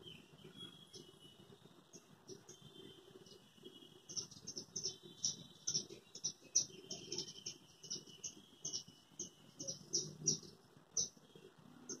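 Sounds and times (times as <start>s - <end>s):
faint continuous trill: 0.0s - 12.0s
small birds chirping: 0.0s - 12.0s.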